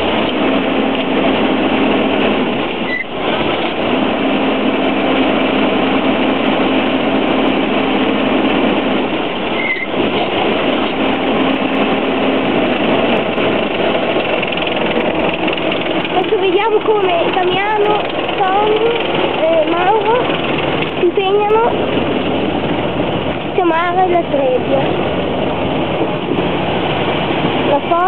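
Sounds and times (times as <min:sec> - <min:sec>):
combine harvester droning: 0:00.0 - 0:28.0
steady hum: 0:00.0 - 0:28.0.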